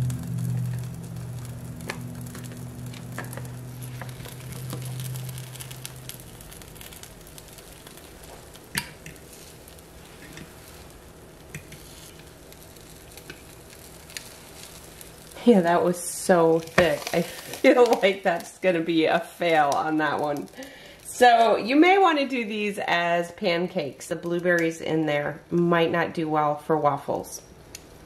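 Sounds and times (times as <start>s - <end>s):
waffle batter sizzling: 0.0s - 24.7s
low steady hum: 0.0s - 28.0s.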